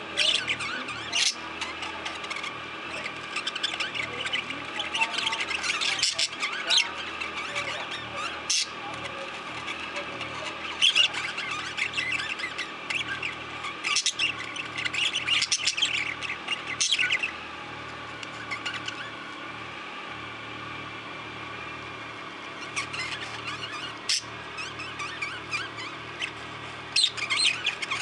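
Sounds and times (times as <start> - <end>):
budgerigars chirping and squawking: 0.0 - 19.6, 22.4 - 28.0.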